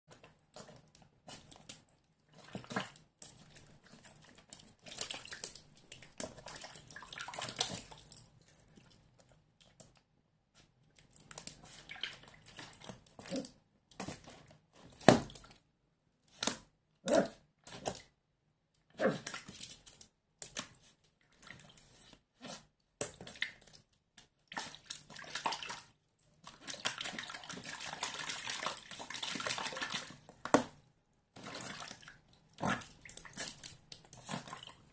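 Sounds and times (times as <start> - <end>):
water splashing in plastic tub: 0.1 - 10.0, 11.0 - 15.7, 19.0 - 22.2, 23.0 - 34.9.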